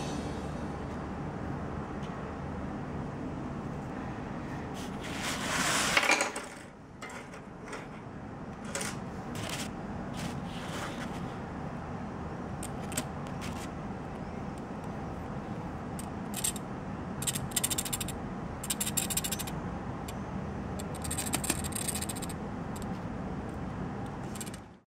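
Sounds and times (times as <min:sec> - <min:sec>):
steady low background noise: 0:00.0 - 0:24.8.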